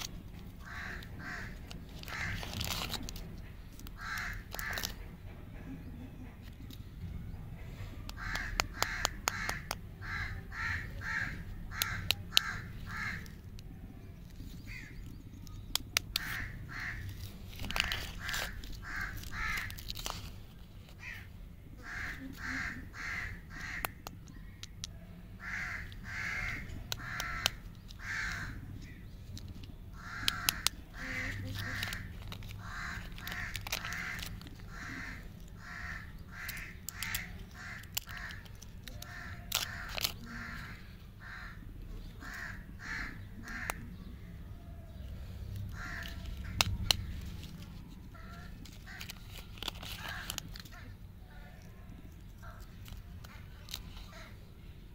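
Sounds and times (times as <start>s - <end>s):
candy wrappers crinkling: 0.0s - 5.1s, 8.1s - 41.3s, 45.2s - 54.5s
crows cawing: 0.6s - 3.2s, 3.8s - 5.1s, 7.8s - 13.5s, 14.6s - 15.0s, 16.1s - 20.2s, 20.8s - 54.5s.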